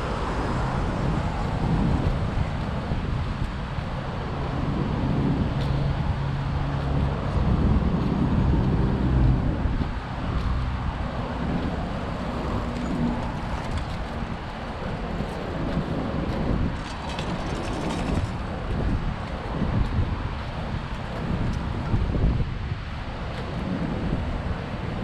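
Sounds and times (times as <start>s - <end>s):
passing cars: 0.0s - 25.0s
vehicle engine hum: 0.0s - 25.0s.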